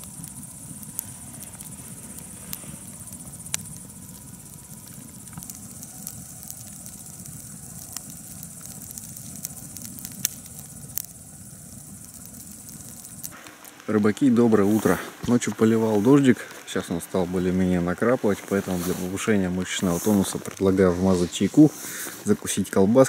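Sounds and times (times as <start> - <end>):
campfire crackling and popping: 0.0 - 23.0
insects chirring: 0.0 - 23.0.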